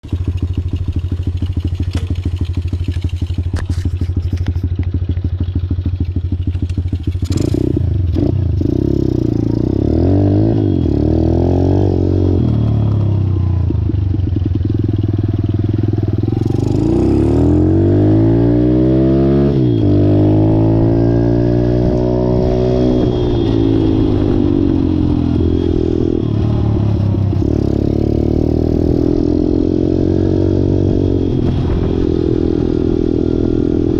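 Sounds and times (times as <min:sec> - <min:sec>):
motorbike engine idling and revving: 0:00.0 - 0:33.9.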